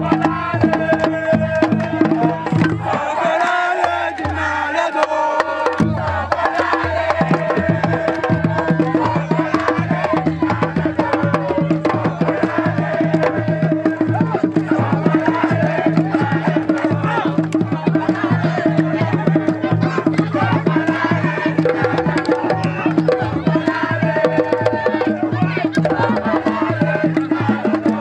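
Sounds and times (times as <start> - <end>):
music with fast percussion: 0.0 - 28.0.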